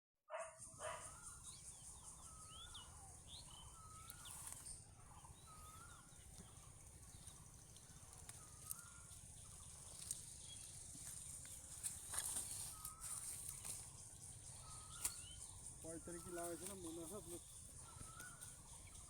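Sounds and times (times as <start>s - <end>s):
bird chirping: 0.3s - 19.0s
insect-like hiss: 0.7s - 19.0s.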